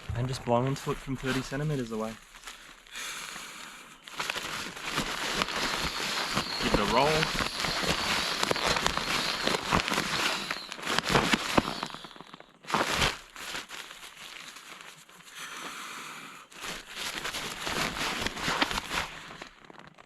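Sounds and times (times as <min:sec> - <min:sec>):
nylon sack crinkling: 0:00.0 - 0:15.6, 0:16.4 - 0:20.0.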